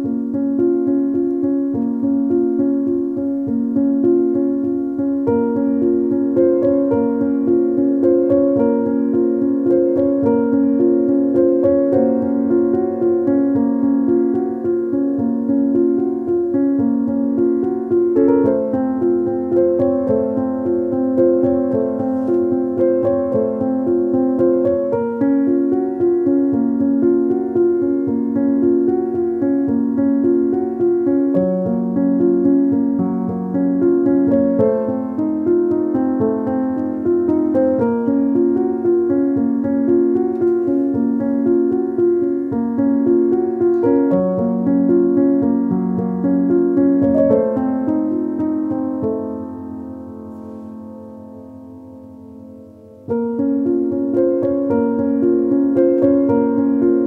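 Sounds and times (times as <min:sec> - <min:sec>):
piano melody over chords: 0:00.0 - 0:57.0.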